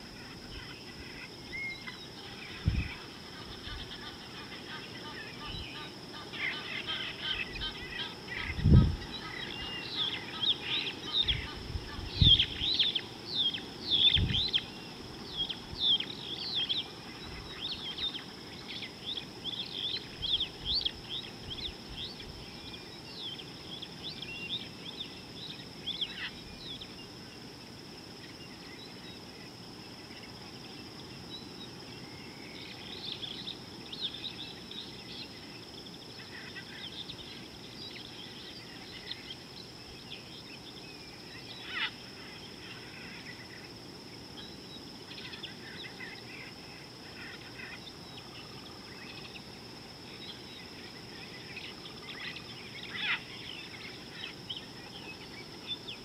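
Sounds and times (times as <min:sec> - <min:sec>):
steady high-pitched whine: 0:00.0 - 0:56.0
wild birds chirping: 0:00.0 - 0:56.0.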